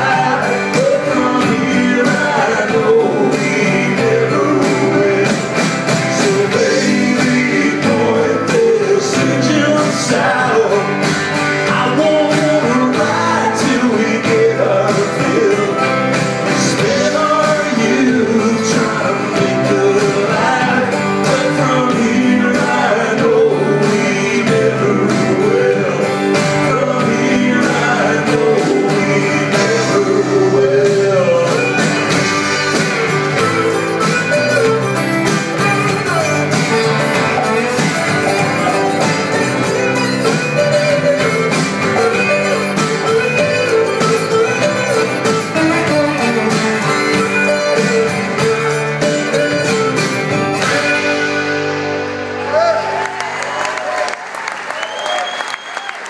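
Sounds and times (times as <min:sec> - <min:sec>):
person singing: 0:00.0 - 0:51.8
strummed acoustic guitars: 0:00.0 - 0:53.5
drums: 0:00.0 - 0:56.0
electric guitar: 0:00.0 - 0:56.0.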